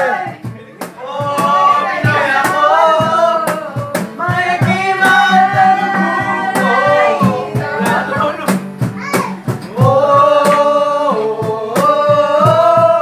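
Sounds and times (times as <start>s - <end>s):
strummed acoustic guitar: 0.0s - 13.0s
person singing: 1.0s - 13.0s.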